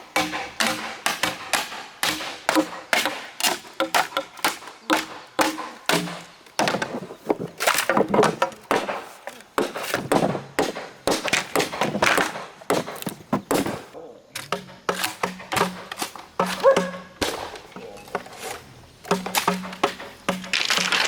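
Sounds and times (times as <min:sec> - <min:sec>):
knocks and chopping blows: 0:00.0 - 0:18.5, 0:19.1 - 0:21.0.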